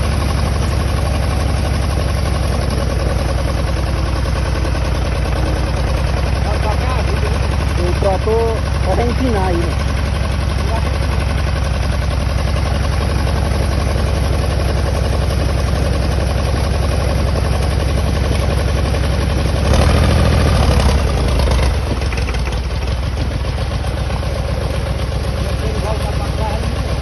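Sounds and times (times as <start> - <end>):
tractor engine running under load: 0.0 - 27.0.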